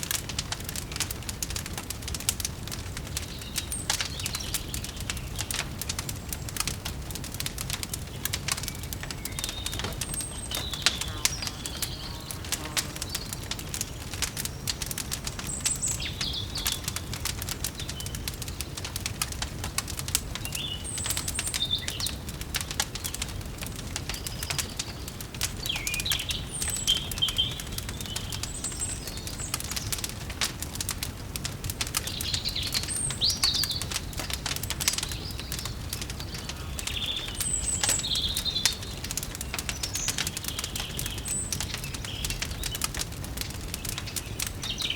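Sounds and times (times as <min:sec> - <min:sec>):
wood fire crackling: 0:00.0 - 0:44.9
small birds chirping: 0:00.1 - 0:44.9.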